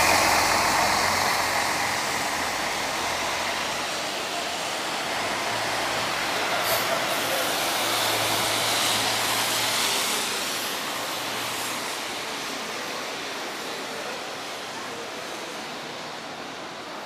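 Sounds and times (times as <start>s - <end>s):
traffic wash: 0.0s - 17.0s.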